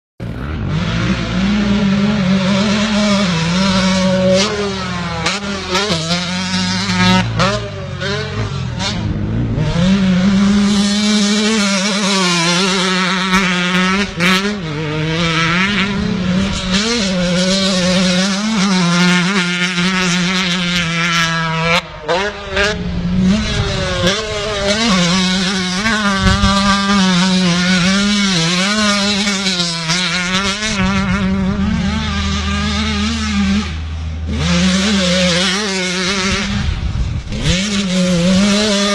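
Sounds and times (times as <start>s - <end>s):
motocross bike engine revving: 0.2s - 38.9s.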